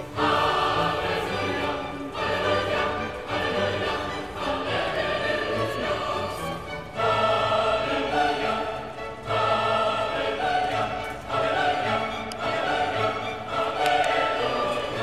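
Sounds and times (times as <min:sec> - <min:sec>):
choral orchestral music: 0:00.0 - 0:15.0.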